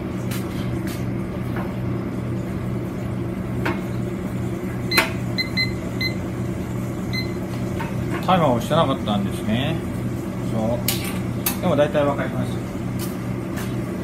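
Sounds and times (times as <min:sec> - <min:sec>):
low kitchen hum: 0:00.0 - 0:14.0.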